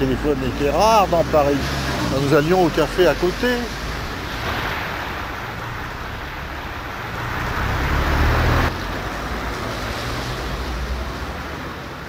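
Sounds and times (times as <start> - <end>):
street traffic: 0.0 - 12.0
vehicle passing: 0.0 - 12.0.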